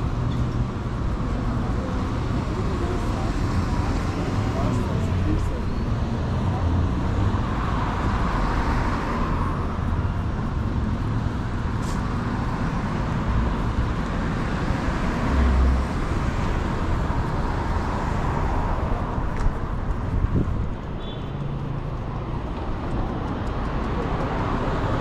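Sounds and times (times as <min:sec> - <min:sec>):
passing cars: 0:00.0 - 0:25.0.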